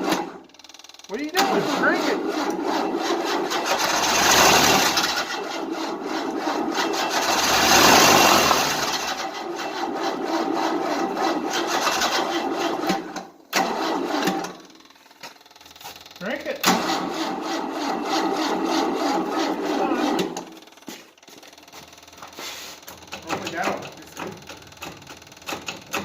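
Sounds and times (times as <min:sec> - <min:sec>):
starter motor cranking engine: 0:00.0 - 0:26.0.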